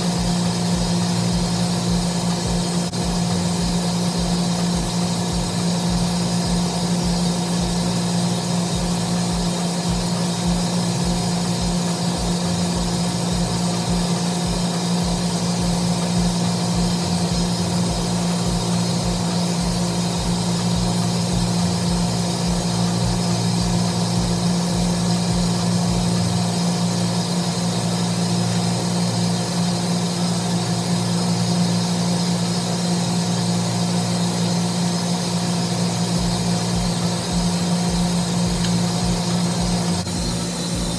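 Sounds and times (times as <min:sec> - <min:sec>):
machinery humming with low pulsing: 0:00.0 - 0:40.9.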